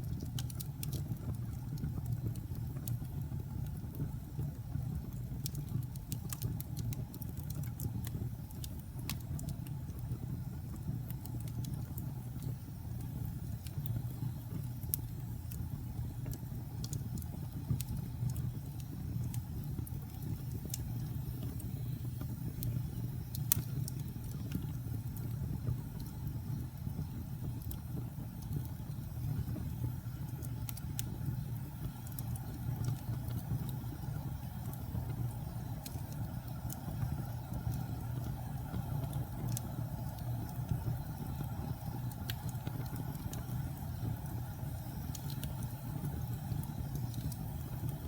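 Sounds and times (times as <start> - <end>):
fire crackling and popping: 0.0 - 48.0
low rumble of burning fire: 0.0 - 48.0.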